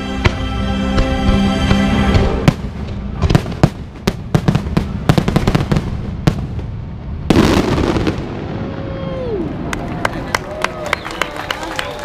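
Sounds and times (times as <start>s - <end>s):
fireworks bangs: 0.2s - 10.4s
fireworks crackling: 1.7s - 12.0s.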